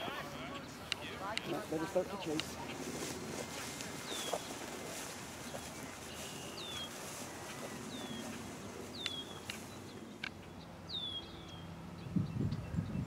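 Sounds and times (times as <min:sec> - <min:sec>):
bird calling: 0:00.0 - 0:11.7
steady outdoor hiss: 0:00.0 - 0:13.0.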